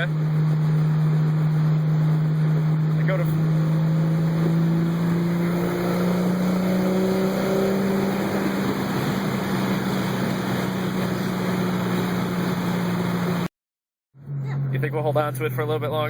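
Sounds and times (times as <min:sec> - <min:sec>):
car engine droning at cruise: 0:00.0 - 0:13.5, 0:14.2 - 0:16.0
road and wind noise: 0:00.0 - 0:13.5.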